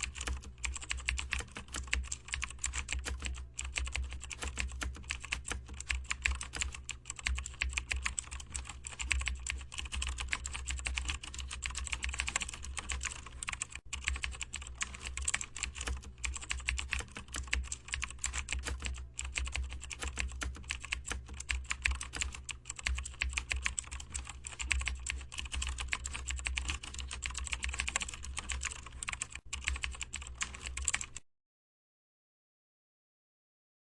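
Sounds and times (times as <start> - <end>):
fast typing on keyboard: 0.0 - 31.2.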